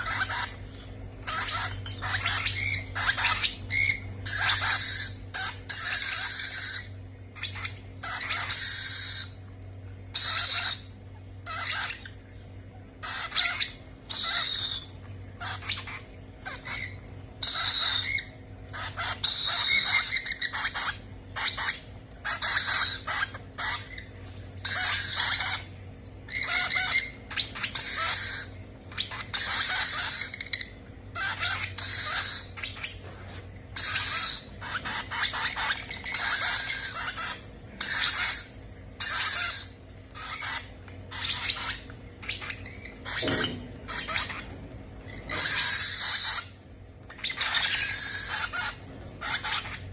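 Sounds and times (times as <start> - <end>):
baby parrots squawking: 0.0 - 12.4, 13.0 - 49.9.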